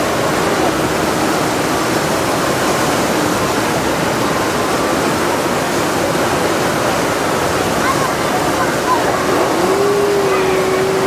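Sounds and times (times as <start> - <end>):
white water rushing over rocks: 0.0 - 11.0.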